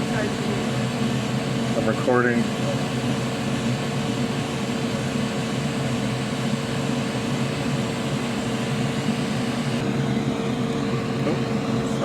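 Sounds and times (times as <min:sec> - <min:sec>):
electric blower motor whirring: 0:00.0 - 0:12.0.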